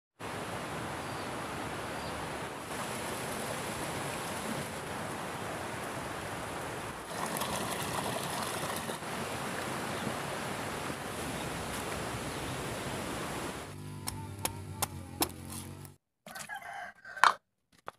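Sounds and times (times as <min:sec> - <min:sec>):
rushing outdoor background noise: 0:00.2 - 0:16.0.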